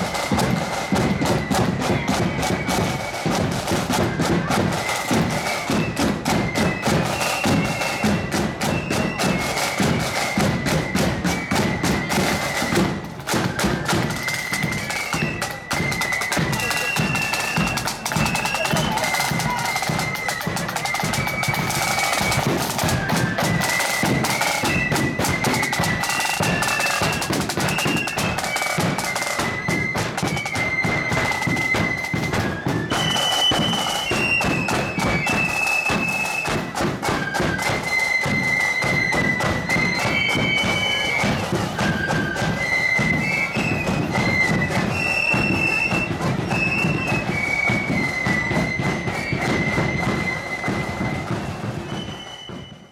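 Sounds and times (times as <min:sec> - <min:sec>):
flutes playing a melody: 0:00.0 - 0:52.9
side drums: 0:00.0 - 0:52.9.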